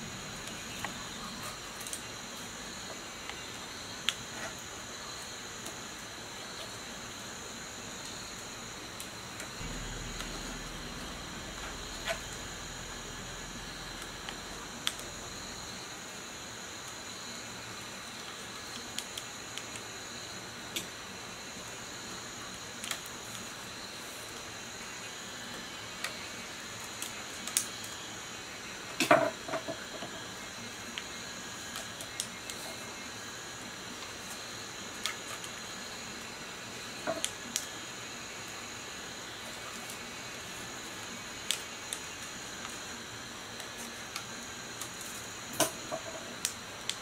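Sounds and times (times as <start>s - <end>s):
steady high hiss: 0.0s - 47.0s.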